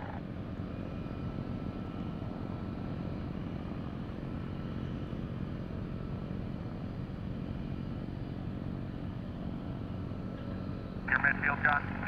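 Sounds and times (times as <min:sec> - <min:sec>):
airplane engine drone: 0:00.0 - 0:12.0
faint steady whine: 0:00.0 - 0:12.0.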